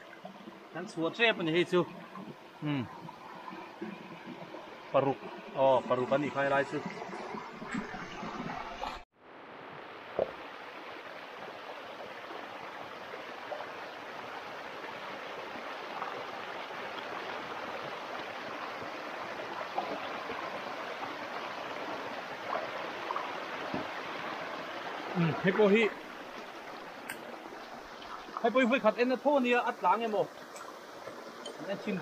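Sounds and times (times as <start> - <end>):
stream water rushing over rocks: 0.0 - 32.0.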